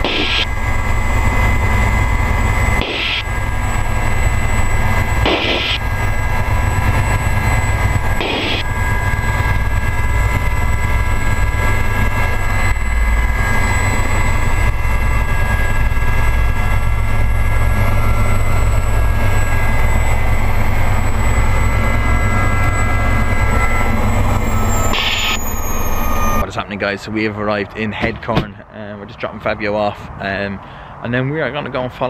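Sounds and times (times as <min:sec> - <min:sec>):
helicopter rotor rumble: 0:00.0 - 0:32.0
high turbine whine: 0:00.0 - 0:32.0.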